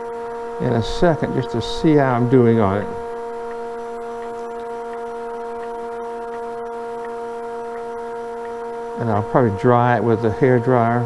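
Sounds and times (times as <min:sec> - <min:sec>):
wood lathe machine hum: 0:00.0 - 0:11.0.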